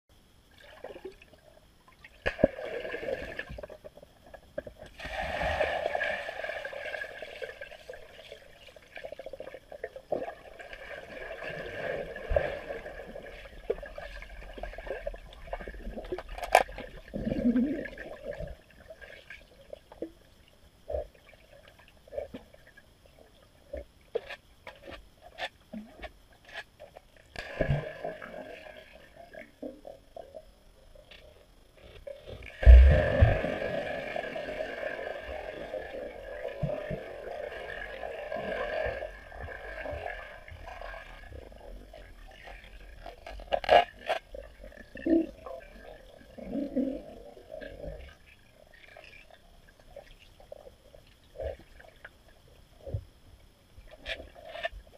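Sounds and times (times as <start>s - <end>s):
underwater rushing and bubbling: 0.2s - 53.2s.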